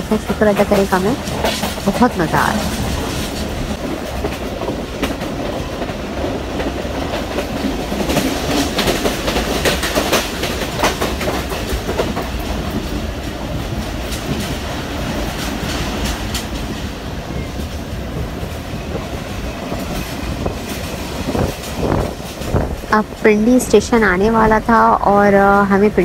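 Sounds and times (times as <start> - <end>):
train carriage rumble: 0.0 - 26.0
wheels clacking over rails: 0.0 - 26.0.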